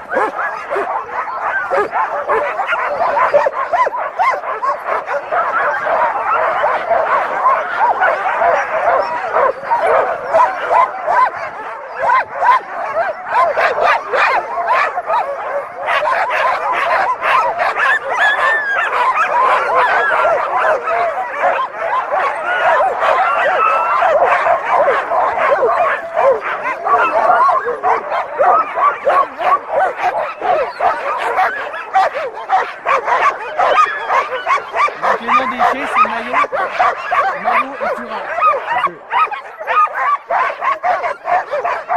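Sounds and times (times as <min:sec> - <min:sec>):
sled dogs barking: 0:00.0 - 0:41.9.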